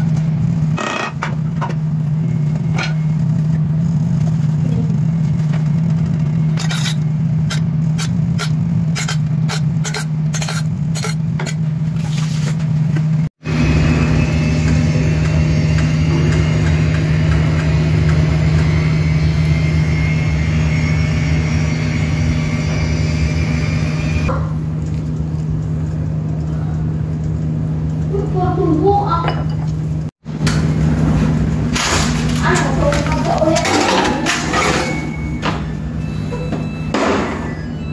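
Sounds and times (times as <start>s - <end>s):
low mechanical hum of machine: 0.0s - 37.9s.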